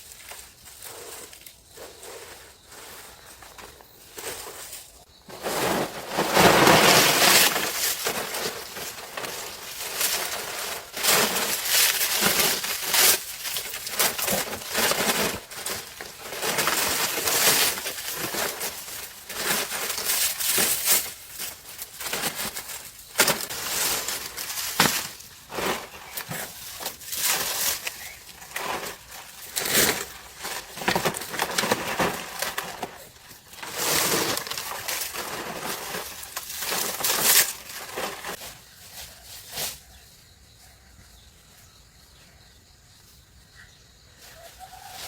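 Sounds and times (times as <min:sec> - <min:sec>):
rough material crunching and rustling: 0:00.0 - 0:39.9.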